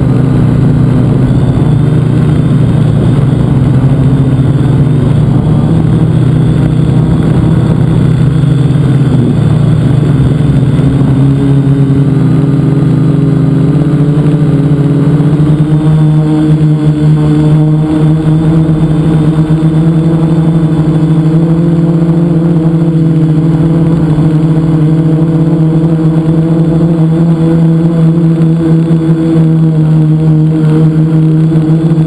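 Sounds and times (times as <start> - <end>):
drone propellers buzzing: 0.0 - 32.0.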